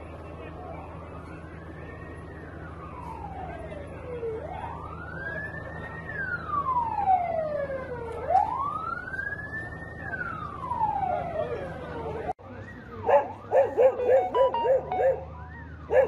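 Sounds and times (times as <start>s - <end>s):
emergency siren wailing: 0.4s - 16.0s.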